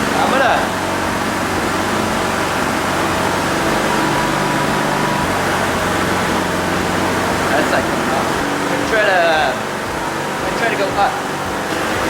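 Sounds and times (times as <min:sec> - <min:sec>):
drone propellers humming: 0:00.0 - 0:12.0
higher hum: 0:00.0 - 0:12.0.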